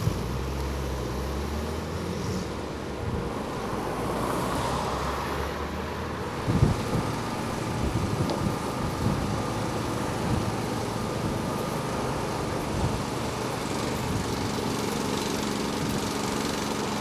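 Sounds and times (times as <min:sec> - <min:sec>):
engine hum: 0:00.0 - 0:17.0
traffic noise: 0:00.0 - 0:17.0.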